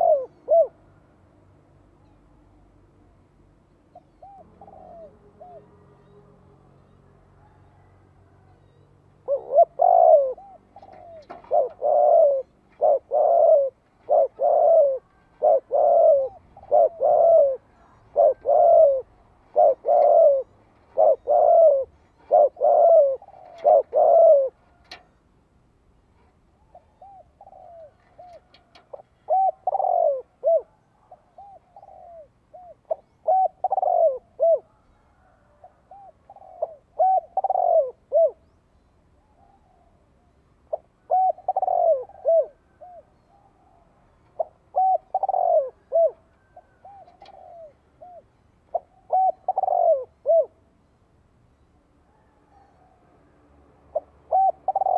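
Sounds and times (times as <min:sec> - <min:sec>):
dove cooing: 0:00.0 - 0:01.0, 0:03.8 - 0:25.2, 0:26.2 - 0:38.6, 0:39.2 - 0:50.7, 0:53.9 - 0:54.9.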